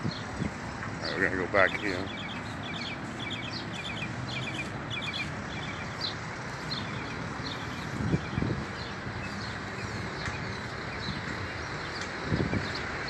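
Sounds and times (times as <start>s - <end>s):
outdoor background noise: 0.0s - 13.0s
small songbird chirping: 0.0s - 13.0s.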